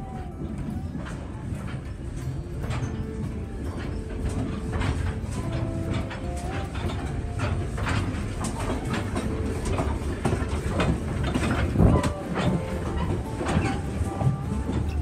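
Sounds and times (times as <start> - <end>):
rail joint clicks and knocks: 0.0 - 15.0
train wheels rumbling on rail: 0.0 - 15.0.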